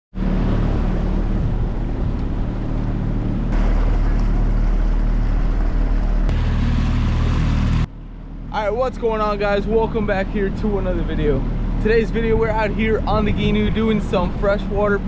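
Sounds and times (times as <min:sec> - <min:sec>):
water rushing past hull: 0:00.1 - 0:15.0
outboard motor running: 0:00.2 - 0:15.0.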